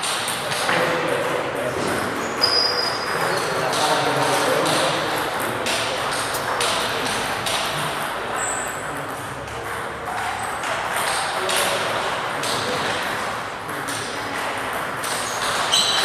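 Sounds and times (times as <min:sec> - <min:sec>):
table tennis balls clicking: 0:03.0 - 0:16.0.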